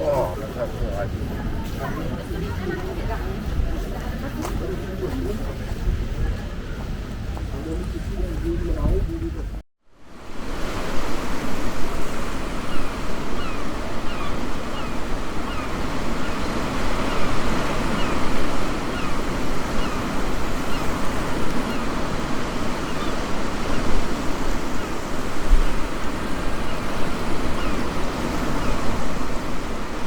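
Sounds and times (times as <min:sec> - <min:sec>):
wind buffeting microphone: 0:00.0 - 0:09.6, 0:10.3 - 0:30.0
waves washing onto beach: 0:00.0 - 0:30.0.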